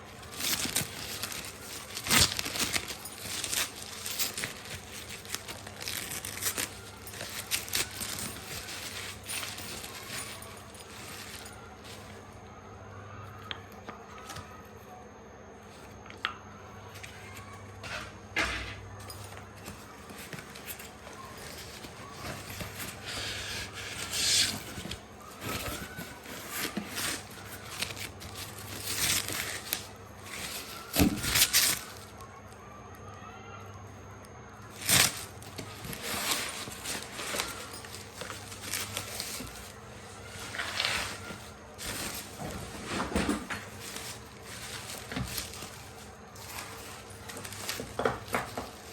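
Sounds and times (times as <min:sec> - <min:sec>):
packaging rustling and scraping: 0:00.0 - 0:12.4, 0:16.9 - 0:32.2, 0:34.7 - 0:48.9.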